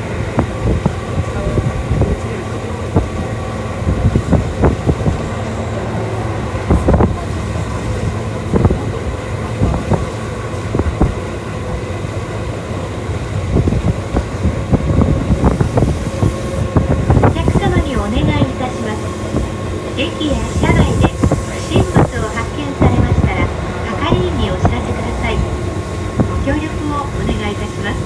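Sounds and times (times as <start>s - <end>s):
train rumble and motor hum: 0.0s - 28.0s.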